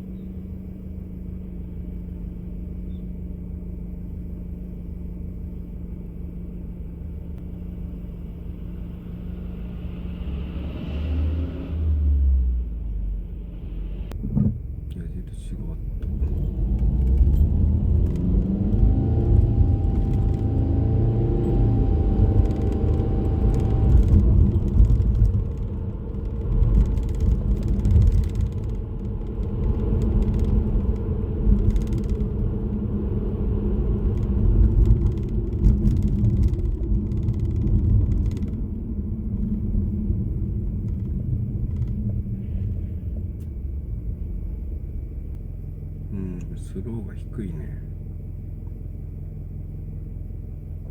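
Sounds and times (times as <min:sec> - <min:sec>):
car engine and road rumble: 0:00.0 - 0:50.9.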